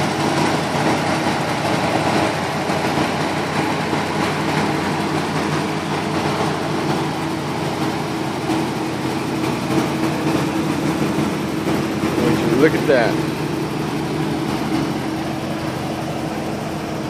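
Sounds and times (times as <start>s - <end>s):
pickup truck engine idling: 0.0s - 17.0s.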